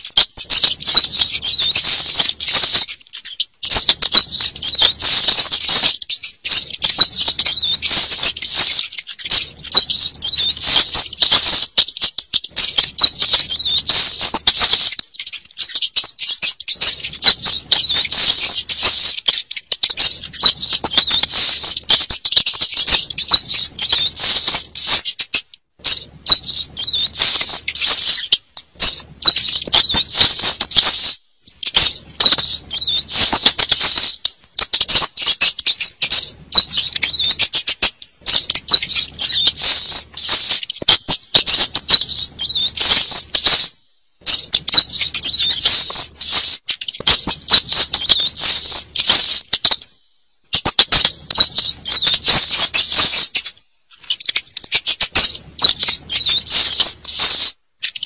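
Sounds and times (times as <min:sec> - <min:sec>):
rats squeaking: 0:00.0 - 0:58.0.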